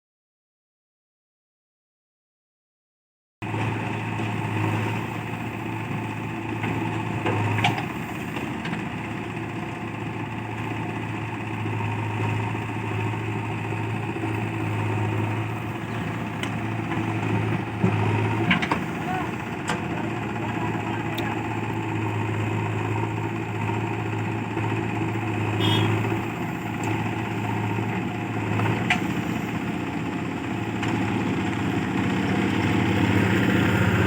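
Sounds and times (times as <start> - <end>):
heavy diesel engine running: 3.4 - 34.0.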